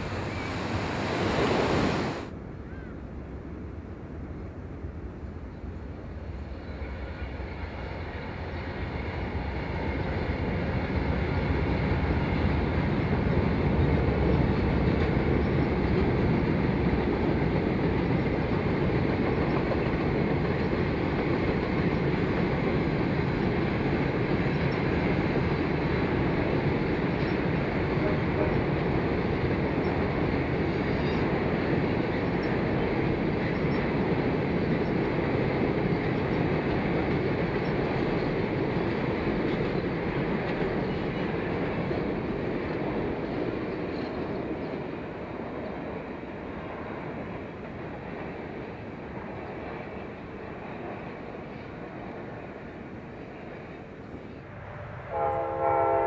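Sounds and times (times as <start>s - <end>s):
train wheels rumbling on rail: 0.0s - 2.4s, 5.7s - 56.0s.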